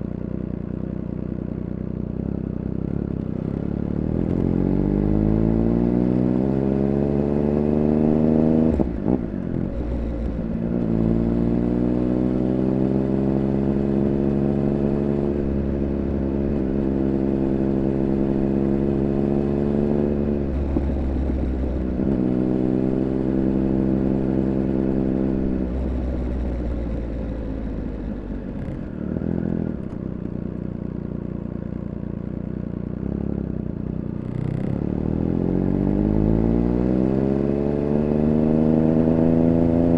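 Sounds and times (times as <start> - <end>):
motorcycle engine accelerating: 2.1 - 39.9.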